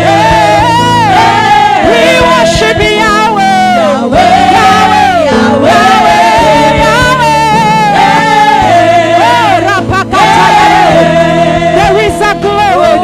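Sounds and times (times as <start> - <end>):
held organ chords: 0.0 - 13.0.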